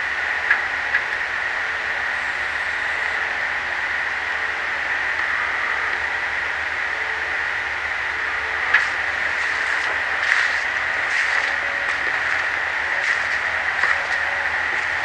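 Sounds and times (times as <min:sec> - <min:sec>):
night insect chorus buzzing: 0:00.5 - 0:15.0.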